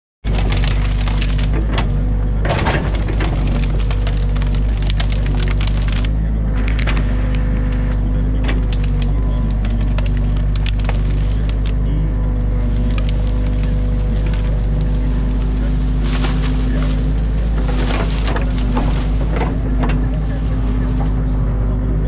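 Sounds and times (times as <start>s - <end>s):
bucket raking through brush: 0.2s - 6.2s, 7.5s - 21.2s
branches cracking and snapping: 0.2s - 21.3s
excavator diesel engine running: 0.2s - 22.0s.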